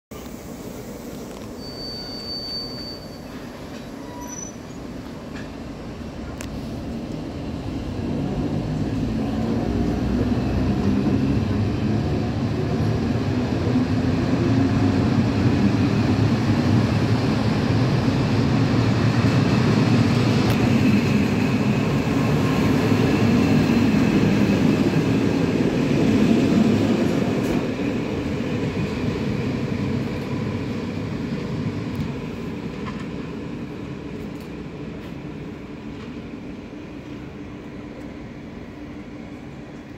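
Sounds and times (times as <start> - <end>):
electric train rumbling past: 0.1 - 39.9.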